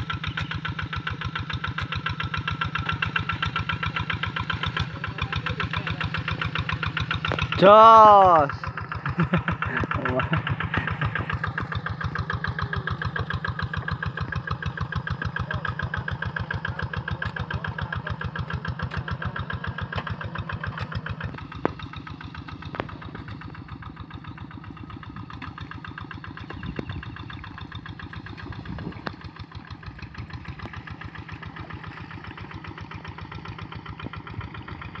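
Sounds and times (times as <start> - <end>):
tractor engine chugging: 0.0 - 35.0.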